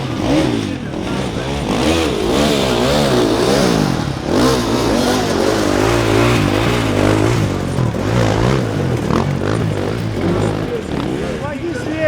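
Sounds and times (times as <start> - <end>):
low engine drone: 0.0 - 11.3
motorcycle engines revving: 0.0 - 12.0.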